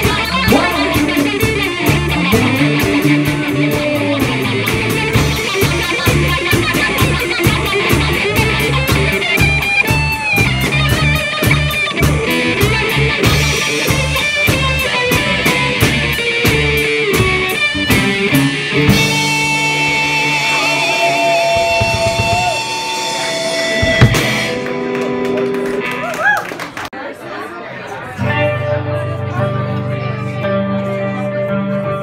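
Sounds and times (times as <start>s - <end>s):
drum kit beat: 0.0s - 26.0s
electric guitars: 0.0s - 26.8s, 28.2s - 32.0s.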